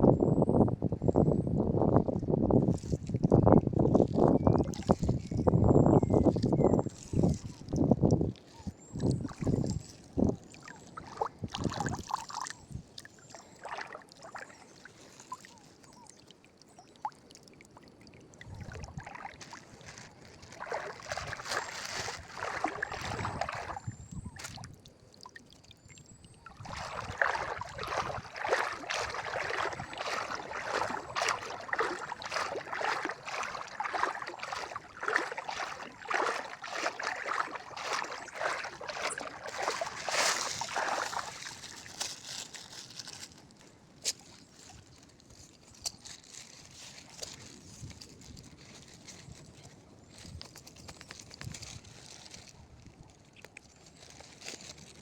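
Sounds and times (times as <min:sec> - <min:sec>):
water splashing and trickling: 0:02.0 - 0:55.0.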